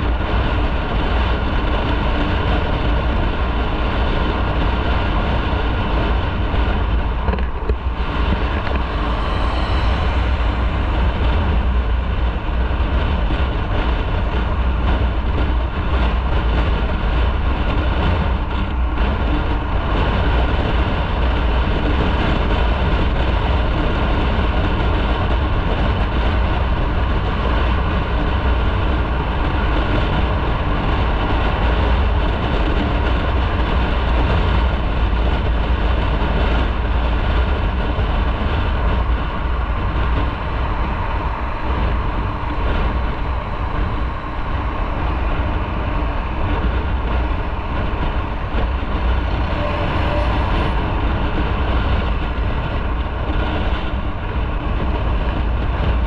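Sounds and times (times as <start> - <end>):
motorcycle engine and wind rumble: 0.0 - 56.0.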